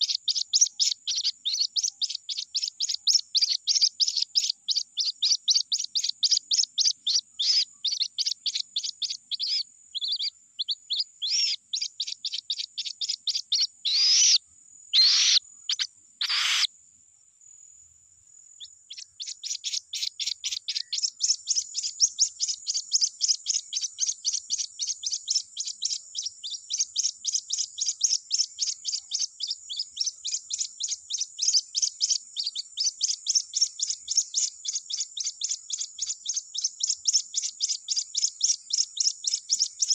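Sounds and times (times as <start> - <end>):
bird chick peeping: 0.0 - 16.7, 18.6 - 39.9.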